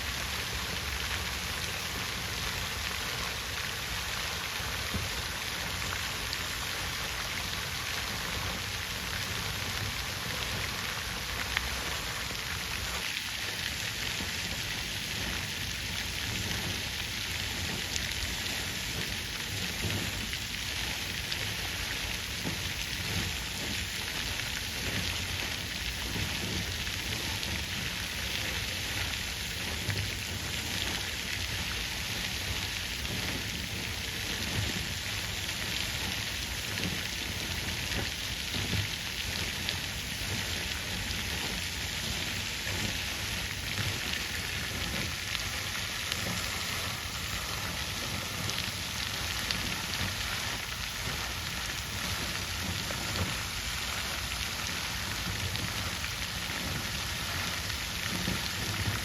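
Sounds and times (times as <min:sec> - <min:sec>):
water fountain splashing: 0:00.0 - 0:59.0.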